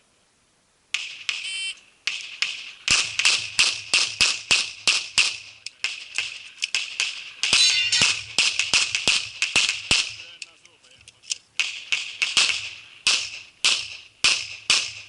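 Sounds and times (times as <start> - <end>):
rapid pistol shots: 0.9 - 10.4, 11.6 - 15.0.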